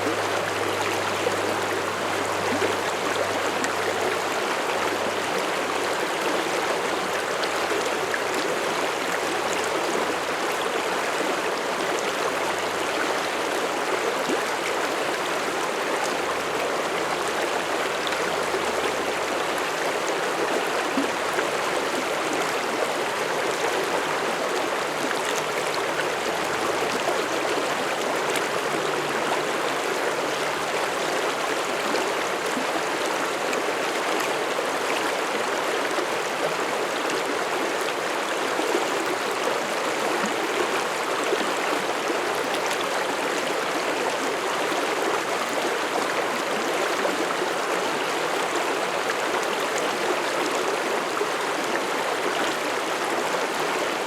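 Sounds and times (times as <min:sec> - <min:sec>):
stream flowing water: 0:00.0 - 0:54.0.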